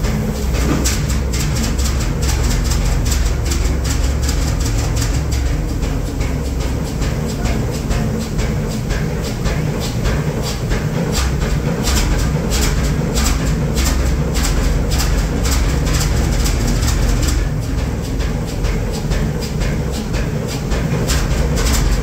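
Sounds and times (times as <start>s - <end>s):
diesel engine running: 0.0s - 22.0s
sharp clacks: 0.0s - 22.0s.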